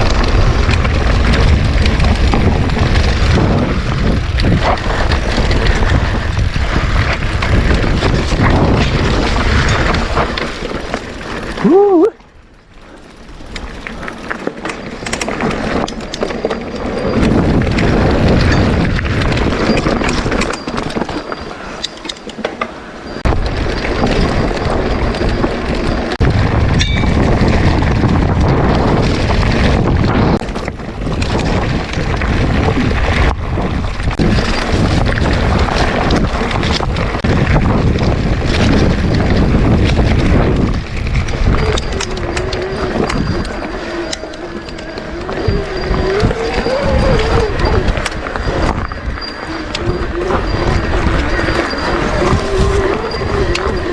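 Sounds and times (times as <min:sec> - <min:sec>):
wind on microphone: 0:00.0 - 0:10.7, 0:11.5 - 0:12.2, 0:16.8 - 0:21.2, 0:23.2 - 0:53.9
bike knocks and rattles: 0:00.0 - 0:53.9
bike rolling on dirt trail: 0:00.0 - 0:53.9.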